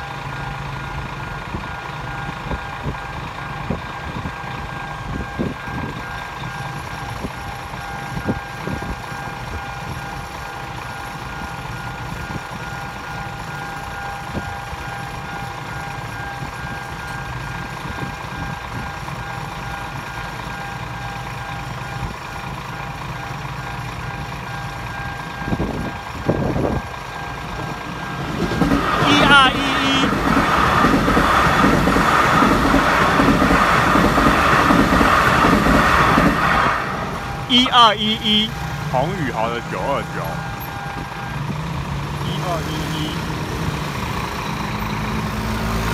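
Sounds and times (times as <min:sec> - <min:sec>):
level crossing warning bell: 0:00.0 - 0:43.1
low rumble of waiting traffic: 0:00.0 - 0:45.9.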